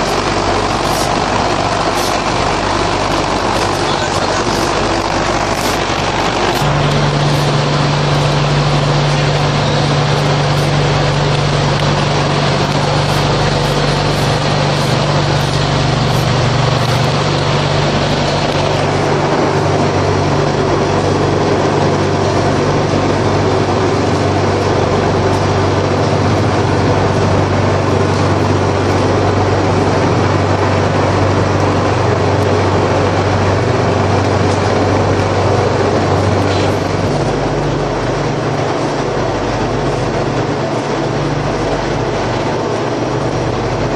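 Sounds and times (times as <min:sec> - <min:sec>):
machinery humming: 0:00.0 - 0:43.9.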